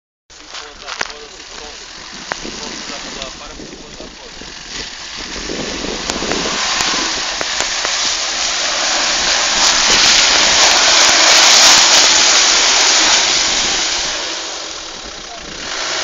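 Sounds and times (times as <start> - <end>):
vehicle splashing through mud: 0.3 - 16.0.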